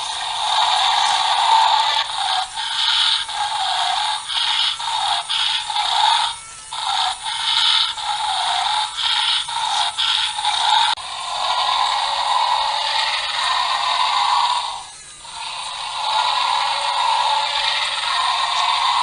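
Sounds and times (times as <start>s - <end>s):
toy gear motor whirring: 0.0s - 19.0s.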